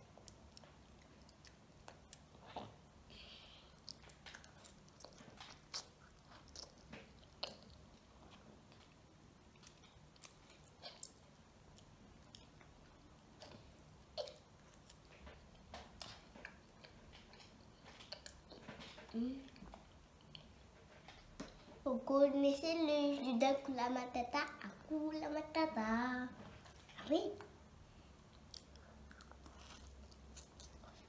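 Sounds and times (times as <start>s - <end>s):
faint chewing: 0.0s - 21.8s, 26.3s - 31.0s.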